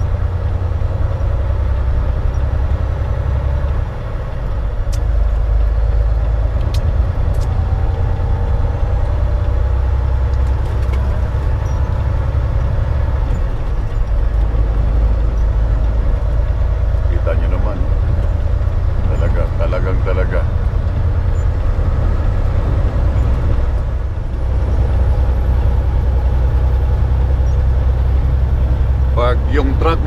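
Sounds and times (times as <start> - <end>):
truck engine rumble from cab: 0.0 - 30.0.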